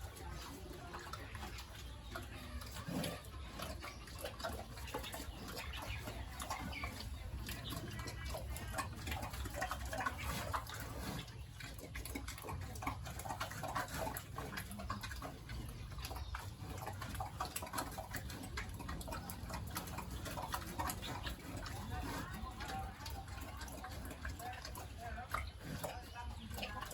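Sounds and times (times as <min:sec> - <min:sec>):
pigs grunting and snuffling: 0:00.0 - 0:26.9.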